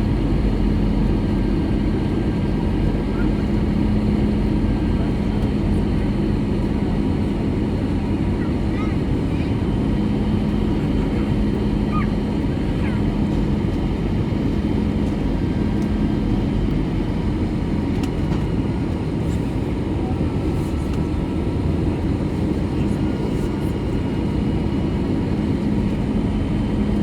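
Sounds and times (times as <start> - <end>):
aircraft cabin engine noise: 0.0 - 27.0.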